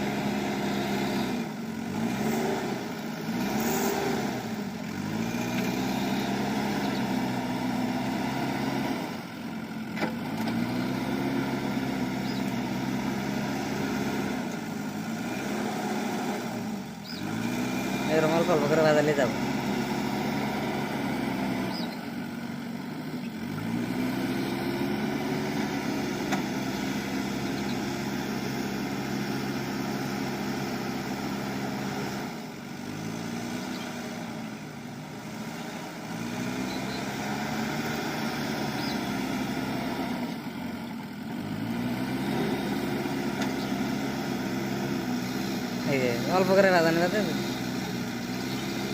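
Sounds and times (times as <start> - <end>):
diesel engine revving under load: 0.0 - 48.9.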